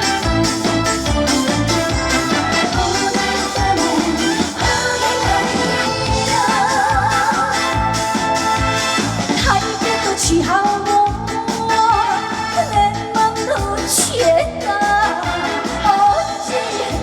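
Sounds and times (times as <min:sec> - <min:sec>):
band backing track: 0:00.0 - 0:17.0
woman singing: 0:01.9 - 0:08.6, 0:09.4 - 0:17.0.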